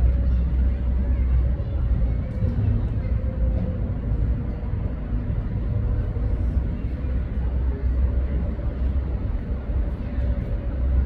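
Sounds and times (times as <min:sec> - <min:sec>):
city background rumble: 0:00.0 - 0:11.0.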